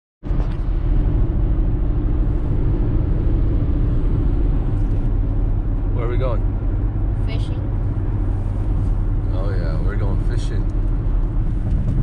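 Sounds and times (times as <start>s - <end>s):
car tyres and engine rumble: 0.2s - 12.0s.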